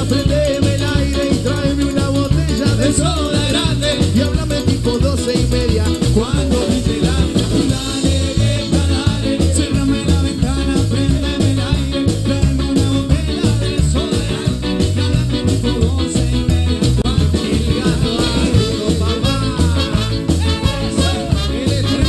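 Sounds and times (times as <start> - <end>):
live band playing: 0.0 - 22.0
man singing: 0.0 - 22.0
pulsing bass beat: 0.0 - 22.0.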